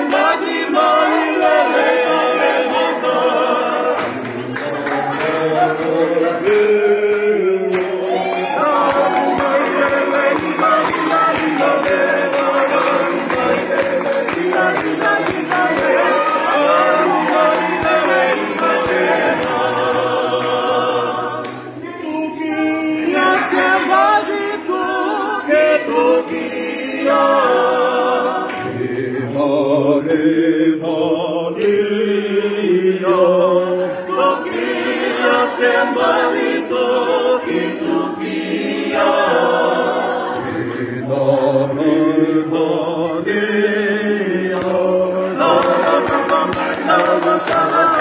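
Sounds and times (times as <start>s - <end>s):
group singing unaccompanied: 0.0s - 48.0s.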